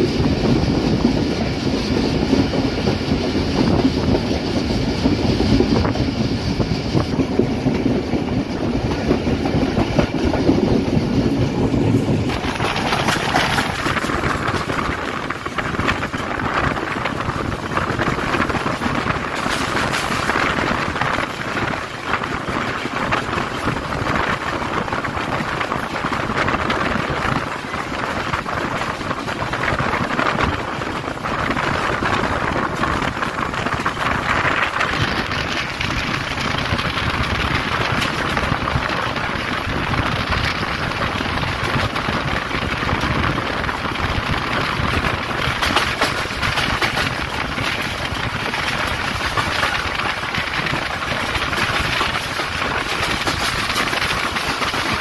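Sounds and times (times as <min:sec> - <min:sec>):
train wheels rushing on rails: 0:00.0 - 0:55.0
wind rushing: 0:00.0 - 0:55.0.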